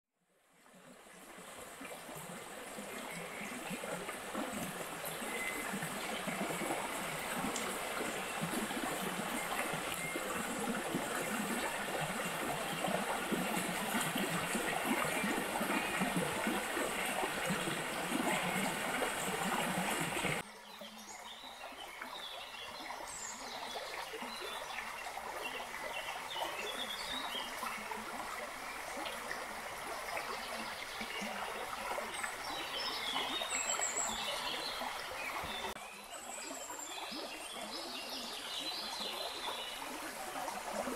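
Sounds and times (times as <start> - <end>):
stream babbling over stones: 0.6 - 40.9.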